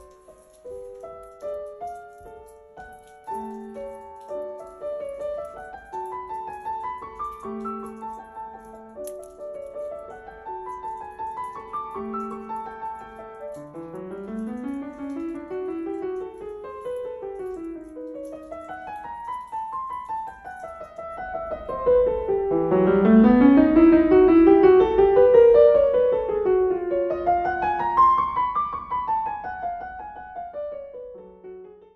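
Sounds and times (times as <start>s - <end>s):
piano arpeggios: 0.0s - 31.9s.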